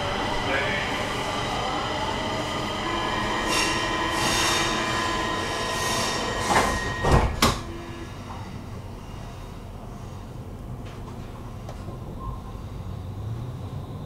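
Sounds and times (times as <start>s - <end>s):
metro train running noise: 0.0s - 14.0s.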